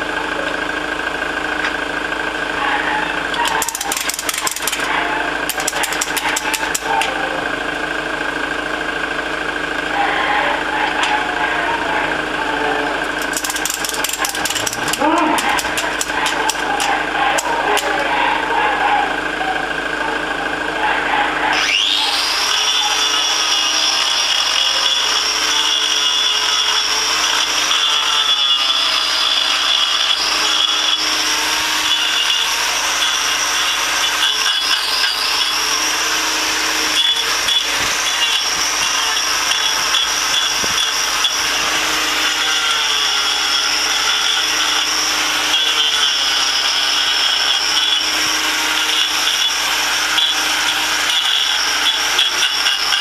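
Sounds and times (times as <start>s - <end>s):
angle grinder grinding hoof: 0.0s - 53.0s
low motor hum: 0.0s - 53.0s.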